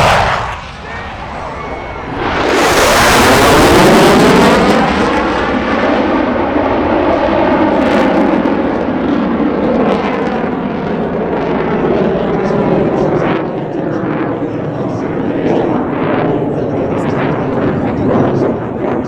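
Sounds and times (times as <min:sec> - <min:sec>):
jet aircraft passing overhead: 0:00.0 - 0:19.0.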